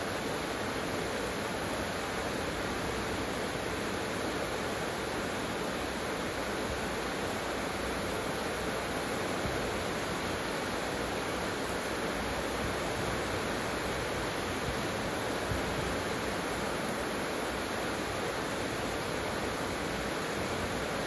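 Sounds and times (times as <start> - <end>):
heavy rain on roof tiles and leaves: 0.0 - 21.0.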